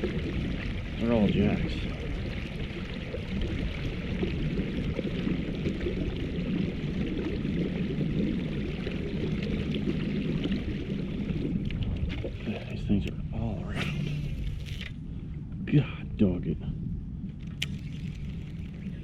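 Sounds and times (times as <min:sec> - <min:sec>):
water splashing around kayak: 0:00.0 - 0:15.7, 0:16.7 - 0:19.0
small waves lapping at hull: 0:00.0 - 0:19.0.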